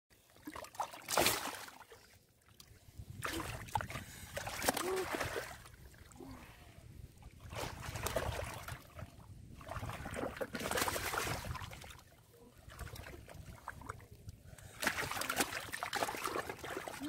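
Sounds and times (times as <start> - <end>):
hands sloshing in muddy water: 0.3 - 6.6, 7.2 - 14.1, 14.7 - 17.0.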